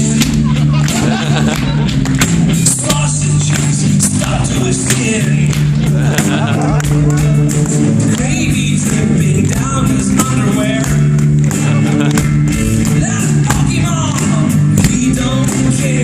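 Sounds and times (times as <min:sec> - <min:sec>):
singer's voice: 0:00.0 - 0:01.8, 0:02.5 - 0:16.0
guitar: 0:00.0 - 0:16.0
steady drumbeat: 0:00.0 - 0:16.0
sustained bass notes: 0:00.0 - 0:16.0.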